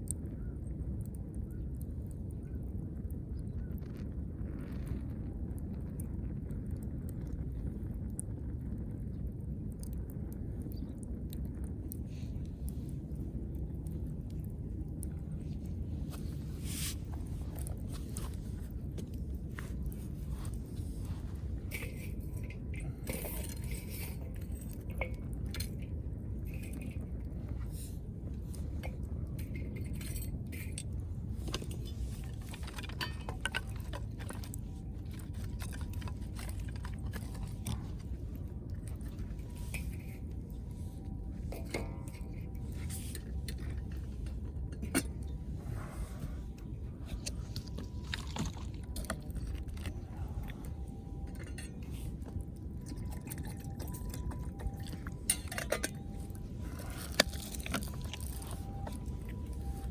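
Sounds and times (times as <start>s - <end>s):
wood fire rumble: 0.0s - 59.9s.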